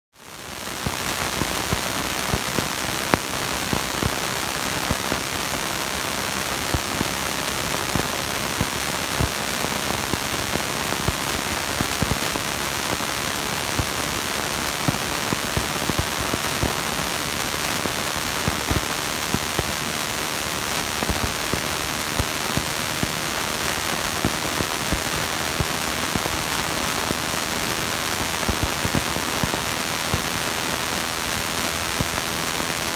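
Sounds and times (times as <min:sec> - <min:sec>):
steady rain: 0:00.2 - 0:32.9.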